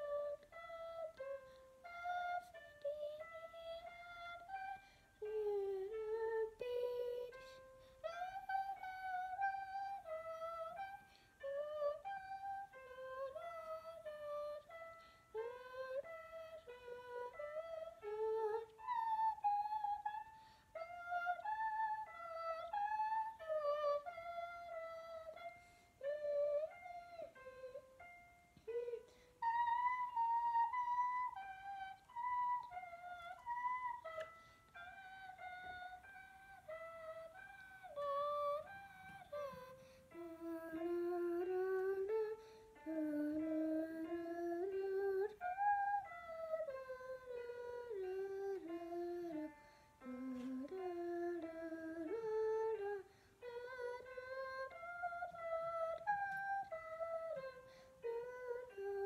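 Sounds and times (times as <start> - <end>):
girl singing wordless melody: 0.0 - 59.0.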